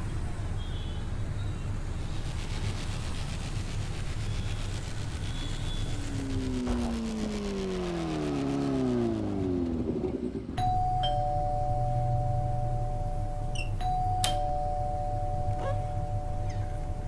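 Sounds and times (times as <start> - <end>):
low traffic hum: 0.0 - 17.0
motor scooter engine running: 1.8 - 17.0.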